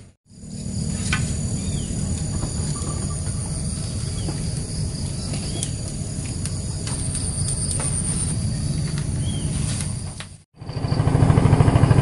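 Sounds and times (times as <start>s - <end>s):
continuous low rumble: 0.0s - 12.0s
insects trilling: 0.3s - 10.4s.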